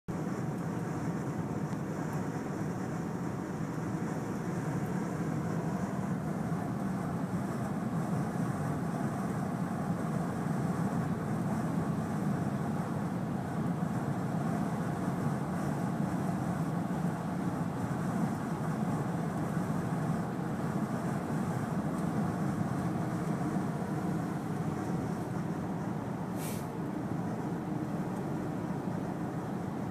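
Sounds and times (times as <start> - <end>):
road and engine noise: 0.1 - 29.9.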